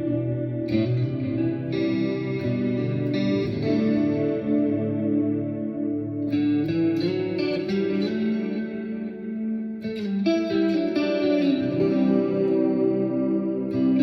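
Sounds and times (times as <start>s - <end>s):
clean electric guitar chords ringing: 0.0s - 14.0s.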